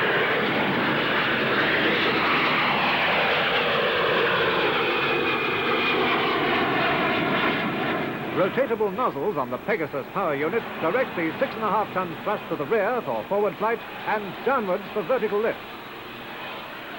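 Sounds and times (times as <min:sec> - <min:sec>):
jet engine roar: 0:00.0 - 0:16.9.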